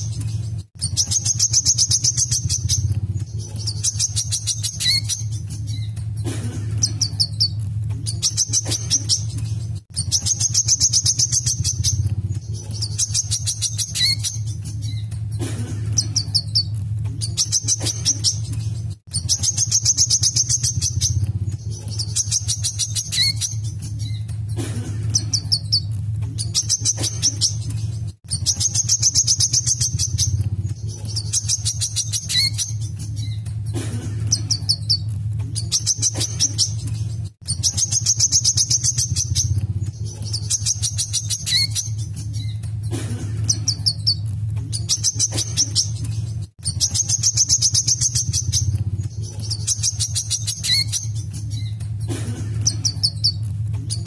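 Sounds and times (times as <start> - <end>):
sunbird trilling song: 0.0 - 15.4, 16.0 - 24.6, 25.2 - 33.4, 34.3 - 54.0
low hum: 0.0 - 54.0.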